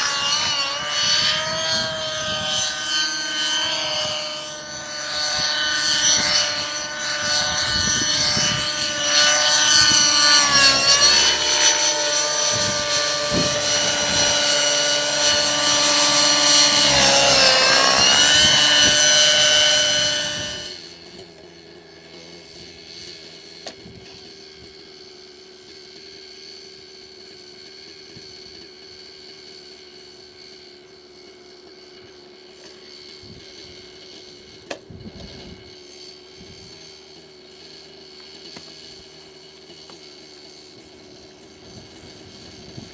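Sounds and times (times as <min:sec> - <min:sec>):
model helicopter rotor whine: 0:00.0 - 0:42.9.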